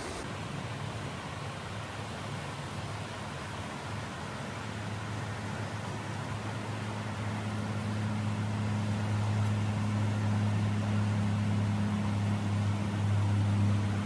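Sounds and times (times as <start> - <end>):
low mechanical hum: 0.0 - 14.0
rushing floodwater: 0.0 - 14.0.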